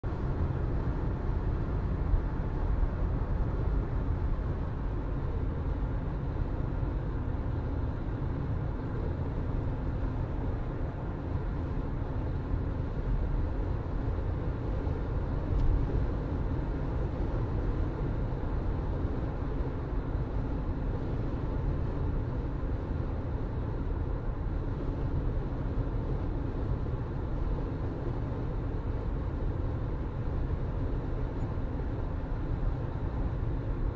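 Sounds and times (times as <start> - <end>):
car engine and tyres rumbling: 0.0 - 33.9.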